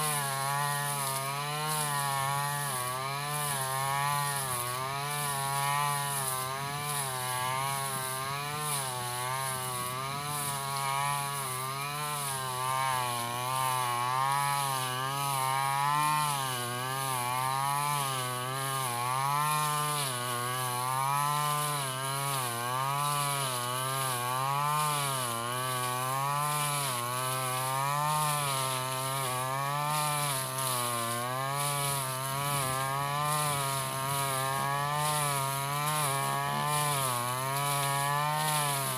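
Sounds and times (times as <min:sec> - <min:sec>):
brushcutter engine cutting grass: 0:00.0 - 0:38.9.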